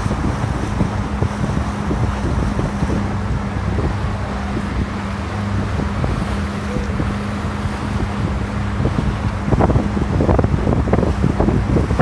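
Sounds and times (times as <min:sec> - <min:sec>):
boat motor humming: 0:00.0 - 0:12.0
water rushing past hull: 0:00.0 - 0:12.0
wind buffeting microphone: 0:00.0 - 0:12.0.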